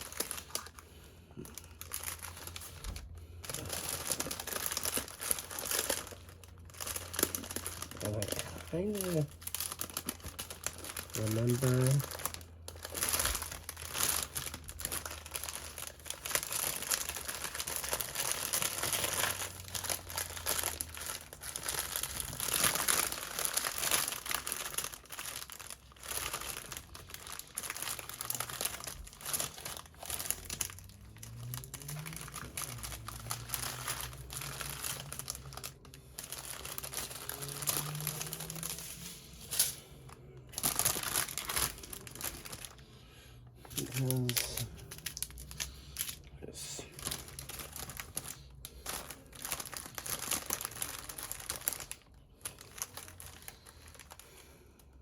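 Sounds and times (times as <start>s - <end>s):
plastic bags crinkling: 0.0s - 55.0s.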